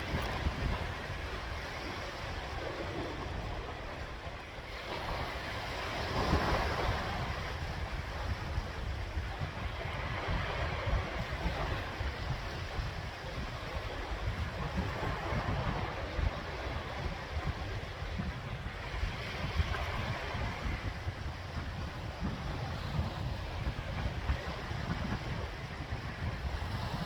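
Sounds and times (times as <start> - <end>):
sea waves breaking: 0.0 - 27.0
wind buffeting microphone: 0.0 - 27.0.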